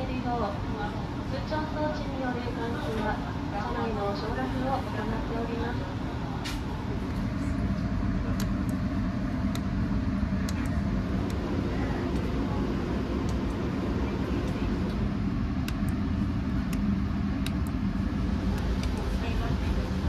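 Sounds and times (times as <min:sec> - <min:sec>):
low rumble inside railcar: 0:00.0 - 0:20.0.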